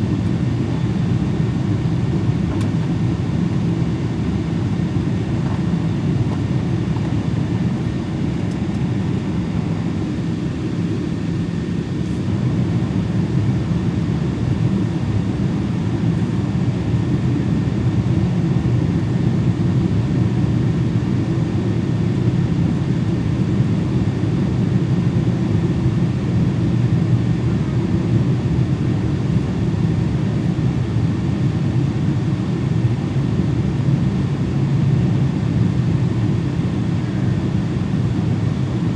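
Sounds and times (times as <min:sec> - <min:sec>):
airplane engines droning in cabin: 0:00.0 - 0:38.9.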